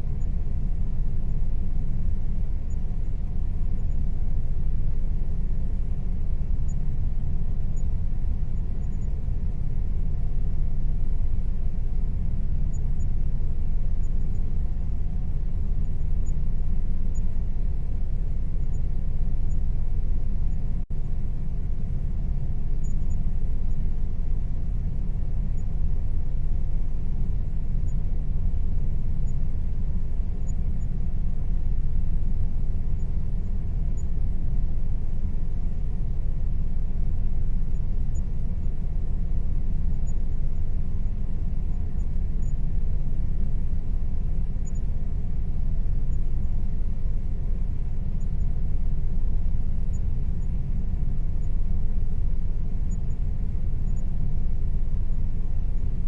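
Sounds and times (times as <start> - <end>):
air conditioner humming: 0.0 - 56.0.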